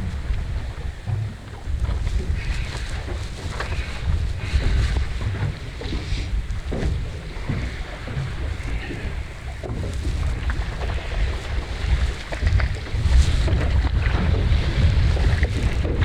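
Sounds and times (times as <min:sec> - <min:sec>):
water slapping around boat: 0:00.0 - 0:16.0
wind buffeting microphone: 0:00.0 - 0:16.0.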